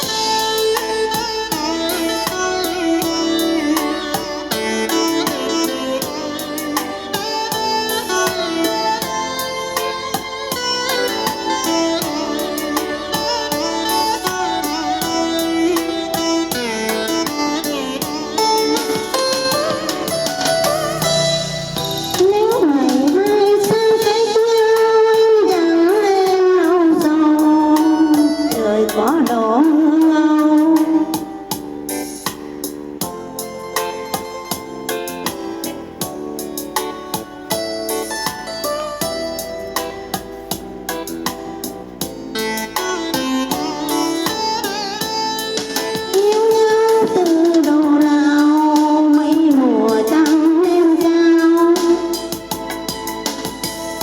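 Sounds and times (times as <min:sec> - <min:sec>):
instrumental accompaniment: 0:00.0 - 0:54.0.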